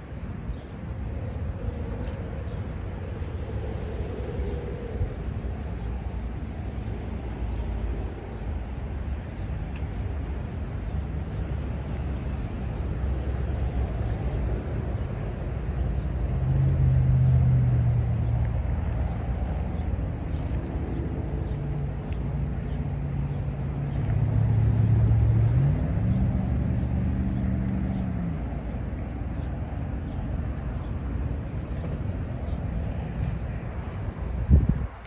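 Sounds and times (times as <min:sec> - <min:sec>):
engine humming: 0:00.0 - 0:35.0
low steady rumble: 0:00.0 - 0:35.0.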